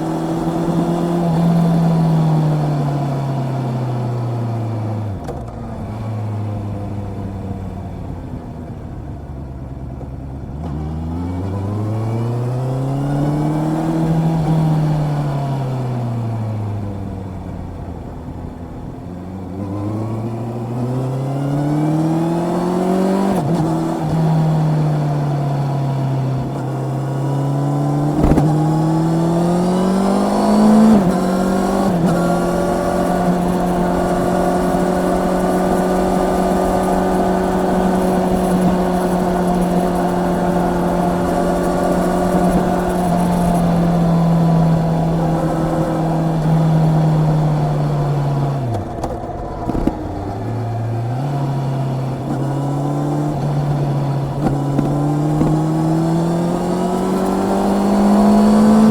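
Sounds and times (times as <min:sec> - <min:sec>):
motorcycle engine revving: 0:00.0 - 0:08.8, 0:10.2 - 0:58.9.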